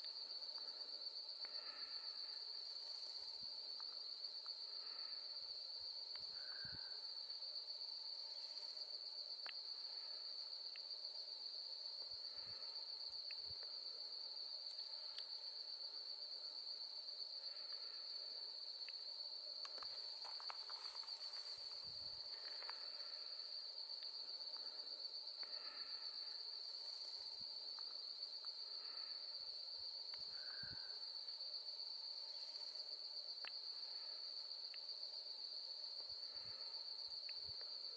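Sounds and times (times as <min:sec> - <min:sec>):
faint insect chirps: 0:00.0 - 0:37.9
insects trilling: 0:00.0 - 0:37.9.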